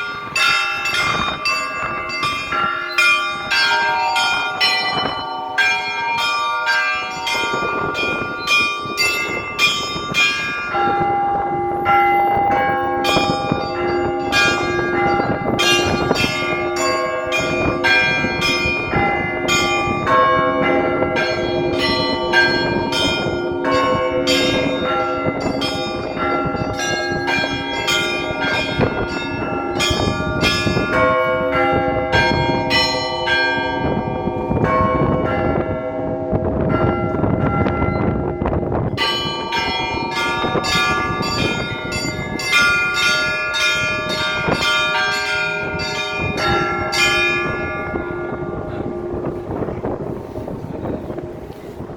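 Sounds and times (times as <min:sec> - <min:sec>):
large low church bells ringing: 0:00.0 - 0:51.9
small high church bells: 0:00.0 - 0:51.9.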